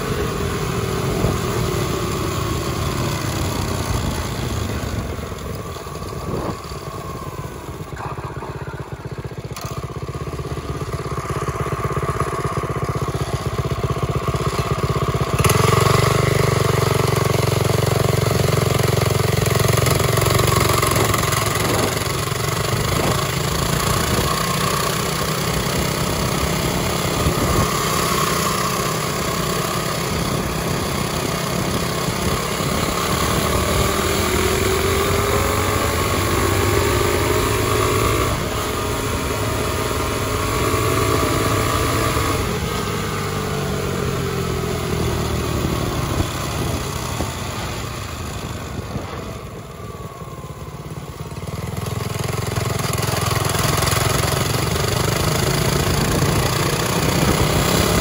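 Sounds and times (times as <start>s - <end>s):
road and wind noise: 0.0s - 58.0s
small four-stroke engine running: 0.0s - 58.0s.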